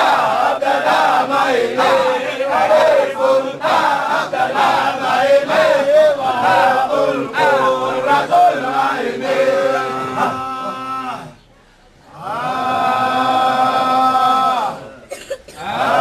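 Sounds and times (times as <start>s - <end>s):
men chanting rhythmically: 0.0s - 11.4s, 12.2s - 14.8s.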